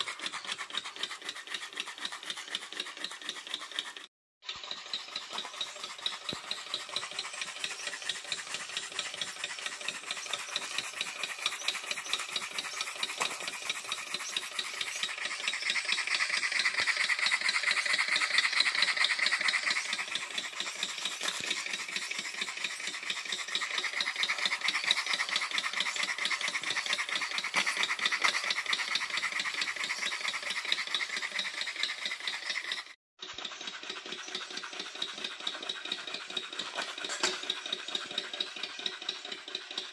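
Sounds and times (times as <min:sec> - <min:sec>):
model steam engine rattling: 0:00.0 - 0:39.9.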